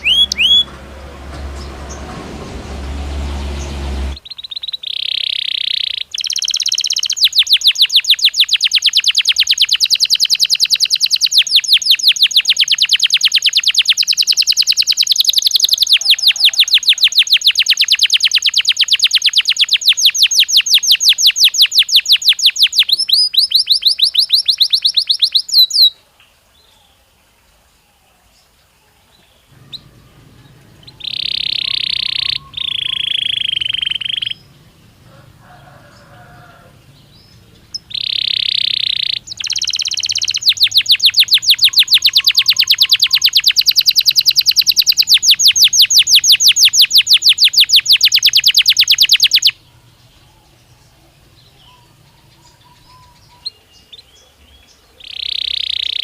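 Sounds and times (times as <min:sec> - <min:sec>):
canary singing trills: 0:00.0 - 0:27.0, 0:29.1 - 0:56.0.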